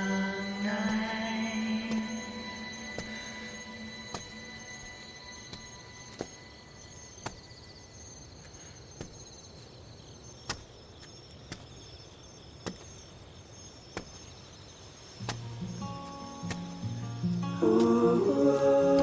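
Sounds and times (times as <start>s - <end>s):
faint high insect chirring: 0.0s - 19.0s.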